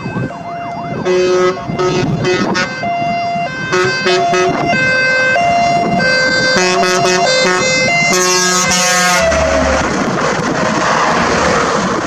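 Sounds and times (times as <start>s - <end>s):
diesel engine and tyre noise: 0.0s - 12.0s
fire engine siren: 0.0s - 12.0s
fire engine horn: 0.1s - 9.9s.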